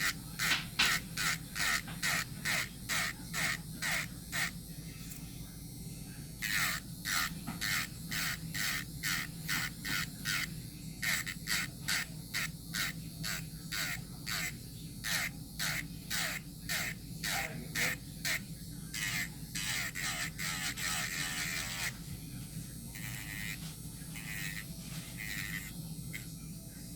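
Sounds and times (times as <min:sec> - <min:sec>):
electric nail drill grinding: 0:00.0 - 0:26.4.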